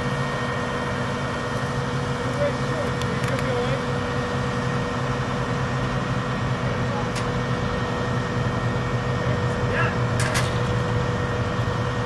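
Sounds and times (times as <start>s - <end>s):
steady hum: 0.0s - 12.0s
truck engine running: 0.0s - 12.0s.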